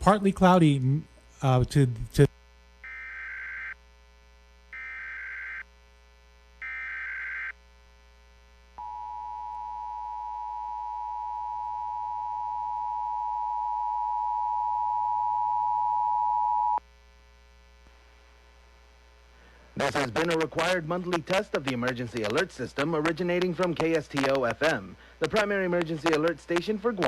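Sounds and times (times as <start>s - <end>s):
faint mains hum: 0.0s - 27.0s.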